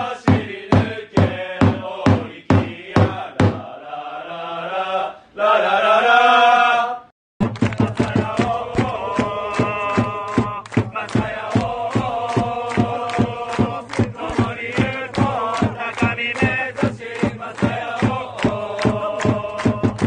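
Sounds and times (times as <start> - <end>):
steady drum beat: 0.0 - 3.7, 7.4 - 20.0
crowd chanting in unison: 0.0 - 7.1, 7.8 - 20.0.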